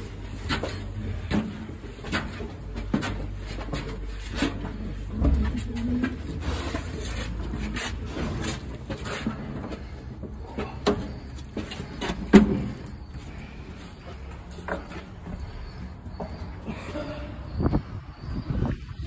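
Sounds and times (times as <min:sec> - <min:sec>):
footsteps on stone stairs: 0:00.0 - 0:16.7.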